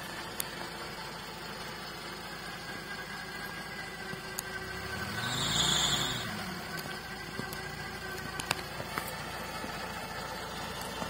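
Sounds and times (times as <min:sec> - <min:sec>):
vehicle winch running under load: 0:00.0 - 0:11.0.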